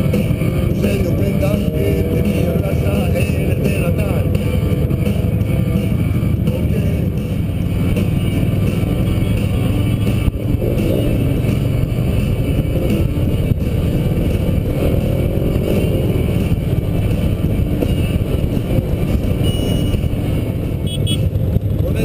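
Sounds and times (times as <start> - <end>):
motorcycle engine rumble: 0.0 - 22.0.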